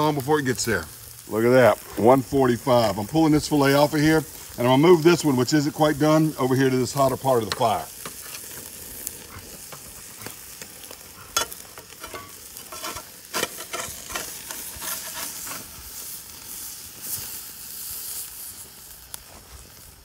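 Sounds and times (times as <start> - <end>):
fish sizzling on a grill: 0.0 - 20.0.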